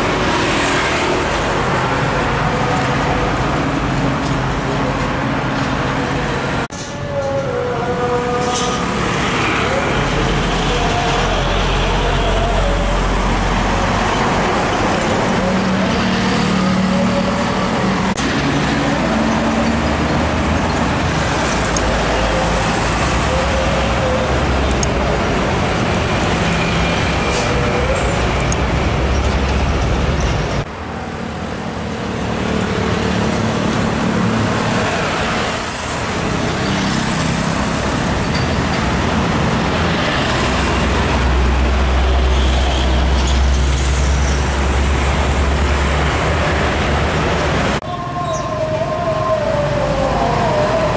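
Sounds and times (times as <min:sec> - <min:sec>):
diesel trucks driving past: 0:00.0 - 0:50.9.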